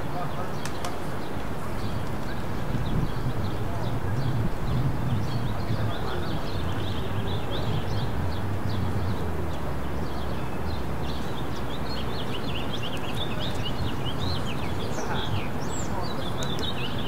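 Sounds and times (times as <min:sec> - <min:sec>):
low rumble of traffic: 0:00.0 - 0:17.0
small birds chirping: 0:00.0 - 0:17.0.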